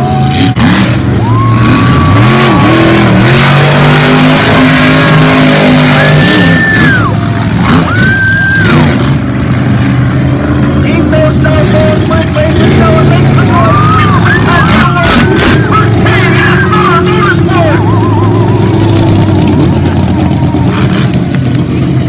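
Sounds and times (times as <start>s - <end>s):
high engine whine: 0.0s - 22.0s
truck engine revving: 0.0s - 22.0s.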